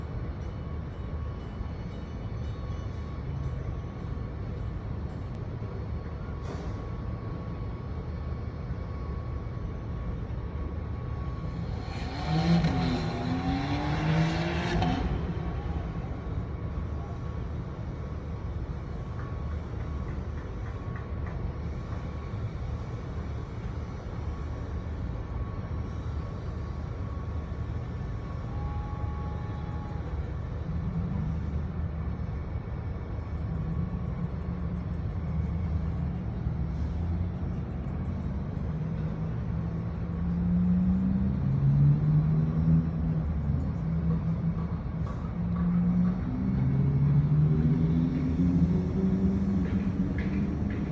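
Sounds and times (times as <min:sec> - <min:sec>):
city ambience rumble: 0:00.0 - 0:50.9.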